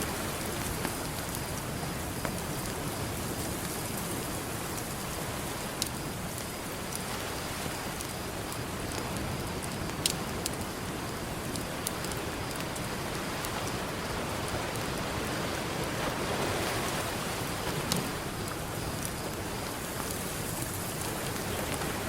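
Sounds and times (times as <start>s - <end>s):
campfire crackling: 0.0s - 22.0s
fire popping: 0.0s - 22.0s
ocean surf: 0.0s - 22.0s.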